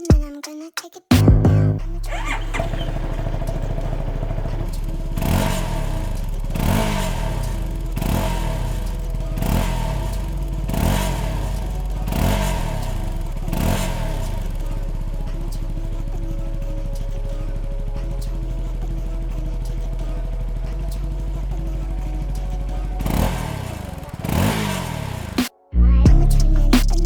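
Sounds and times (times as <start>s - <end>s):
motorcycle engine idling and revving: 1.2s - 25.5s, 26.1s - 27.0s.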